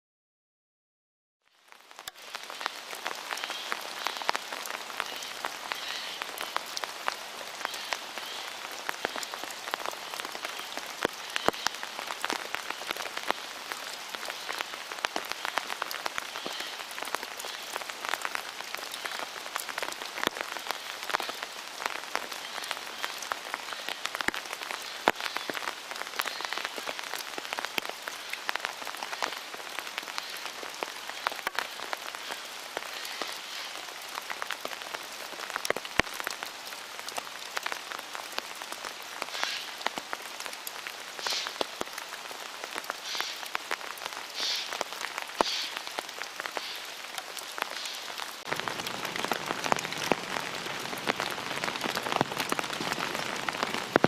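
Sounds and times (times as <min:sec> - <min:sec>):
rain on an umbrella: 0:01.4 - 0:54.0.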